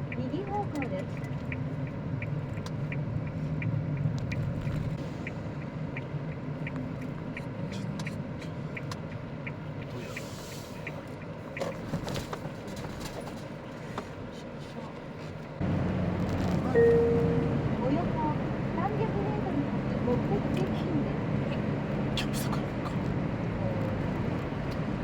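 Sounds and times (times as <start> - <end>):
turn signal ticking: 0.0 - 12.6, 15.4 - 25.0
car cabin road rumble: 0.0 - 25.0.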